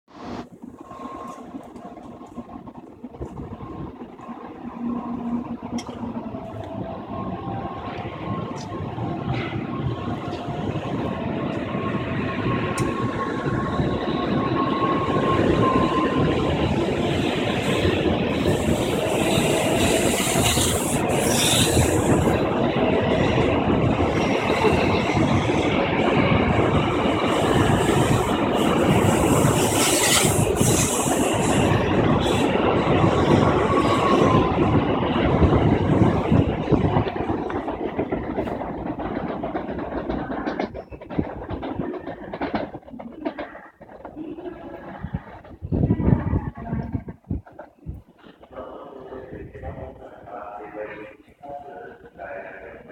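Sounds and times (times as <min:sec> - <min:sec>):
train running noise: 0:00.1 - 0:52.9.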